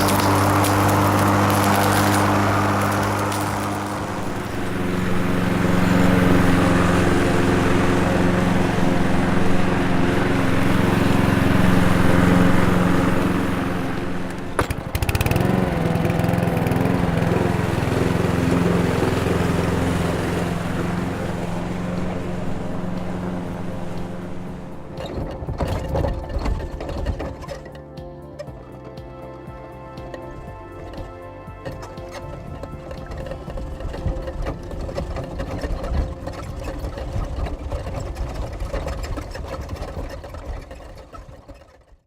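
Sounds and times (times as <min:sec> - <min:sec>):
lawn mower engine running: 0:00.0 - 0:42.0.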